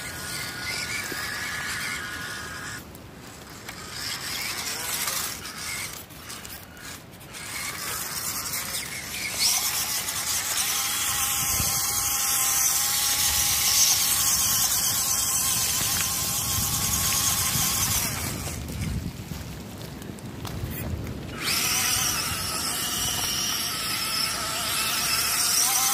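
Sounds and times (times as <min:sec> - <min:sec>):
small electric motor whining: 0:00.0 - 0:25.9.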